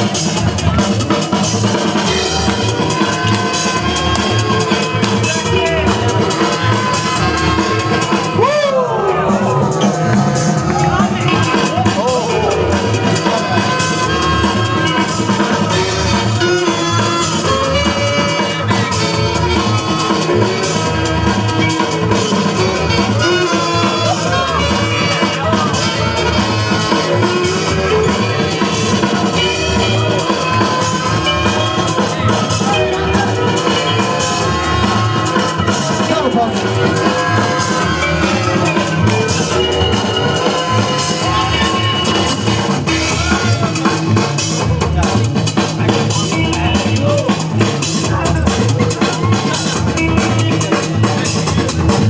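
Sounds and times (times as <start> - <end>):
breakbeat music: 0.0 - 52.0.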